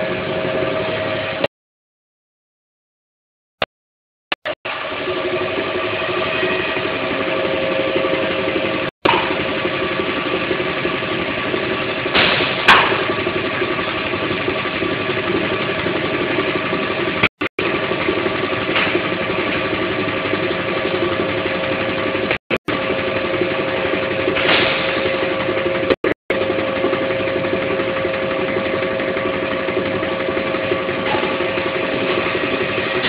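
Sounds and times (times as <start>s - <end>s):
machinery humming: 0.0s - 1.5s, 4.7s - 33.0s.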